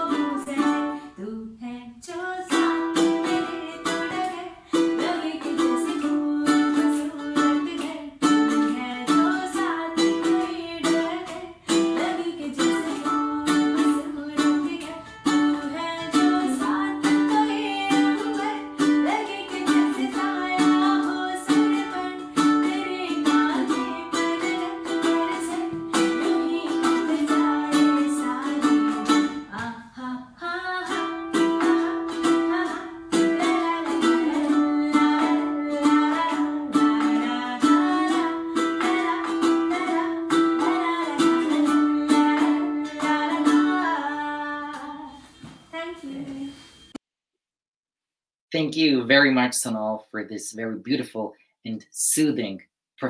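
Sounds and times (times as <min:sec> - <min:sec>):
strummed ukulele: 0:00.0 - 0:01.3, 0:02.1 - 0:45.6
woman singing: 0:00.0 - 0:46.8.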